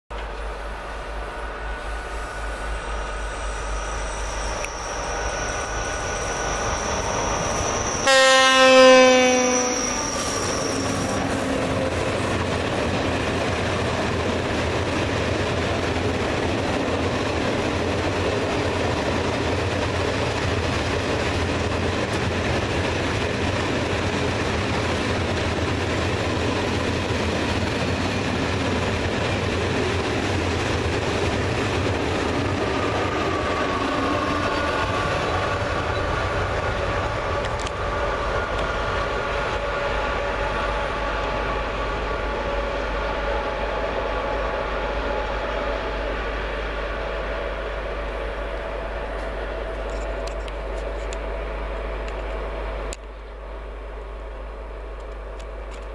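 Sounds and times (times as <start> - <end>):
electric locomotive whine: 0.1 - 55.9
freight train wheels rumbling on rail: 0.1 - 55.9.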